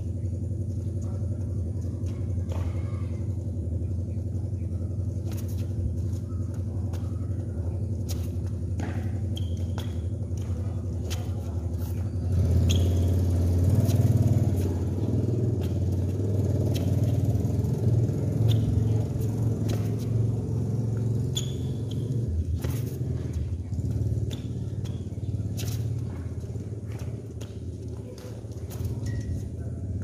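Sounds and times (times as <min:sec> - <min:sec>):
court shoes tapping: 0:00.1 - 0:30.0
shoes squeaking: 0:04.8 - 0:30.0.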